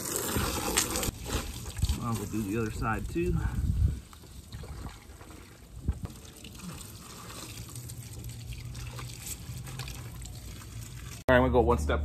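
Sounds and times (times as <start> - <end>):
hose water splashing on plastic: 0.0 - 11.3.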